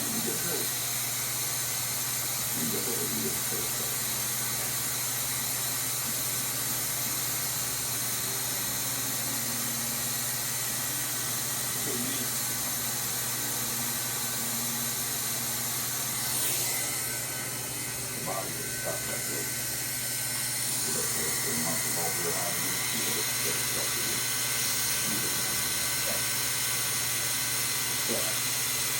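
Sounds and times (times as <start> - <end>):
blower motor humming: 0.0 - 28.9
hot air hissing: 0.0 - 28.9.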